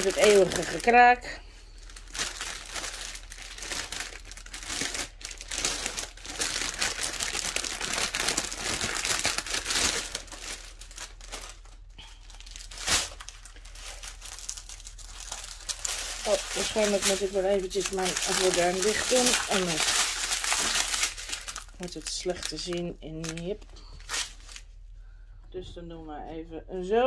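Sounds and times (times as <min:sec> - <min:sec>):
plastic packaging crinkling: 0:00.0 - 0:24.8.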